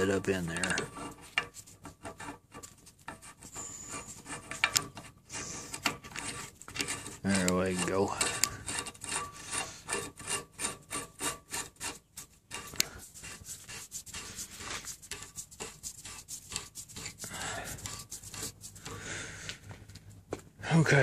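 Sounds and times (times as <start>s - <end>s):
rasping rubs of threaded nut: 0.0s - 20.1s.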